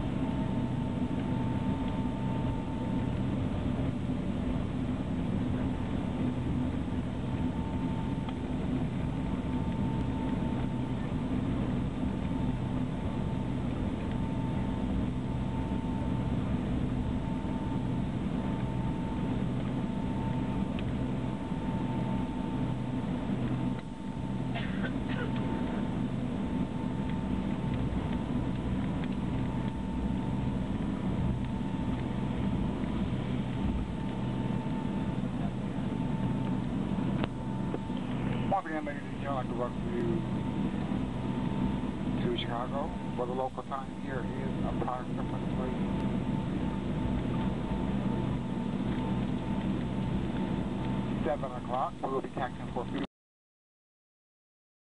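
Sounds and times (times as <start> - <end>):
faint steady whine: 0.0 - 53.1
jet engine rumble in cabin: 0.0 - 53.1.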